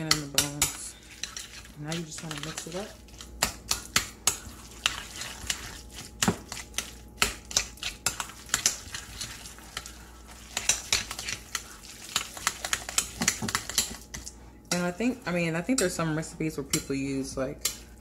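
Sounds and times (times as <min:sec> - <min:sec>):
spoon clinking and scraping glass bowl: 0:00.0 - 0:14.8.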